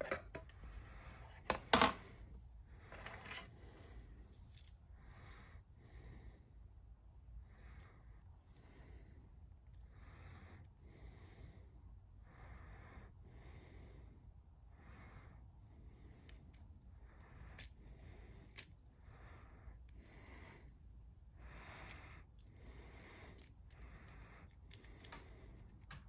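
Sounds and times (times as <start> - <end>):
low room hum: 0.0 - 26.0
soft breathing: 0.0 - 26.0.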